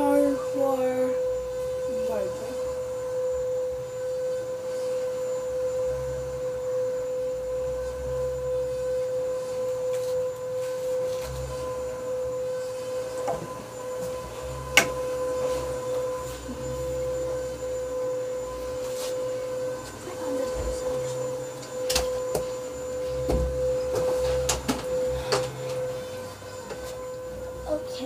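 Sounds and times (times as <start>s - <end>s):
steady mid-pitched hum: 0.0s - 28.0s.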